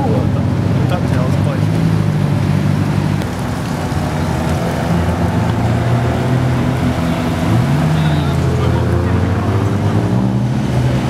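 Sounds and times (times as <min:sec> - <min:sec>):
loud car engines and exhausts: 0:00.0 - 0:11.0.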